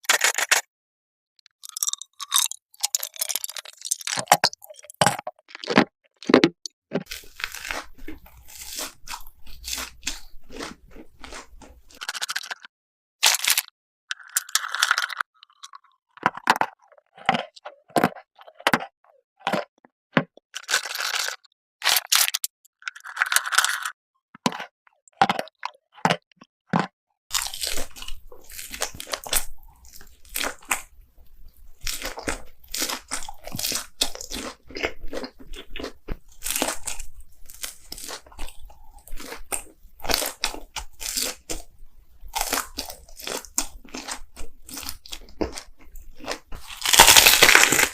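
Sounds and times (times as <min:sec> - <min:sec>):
crunchy bites and chewing: 0:00.0 - 0:00.6, 0:01.6 - 0:47.9.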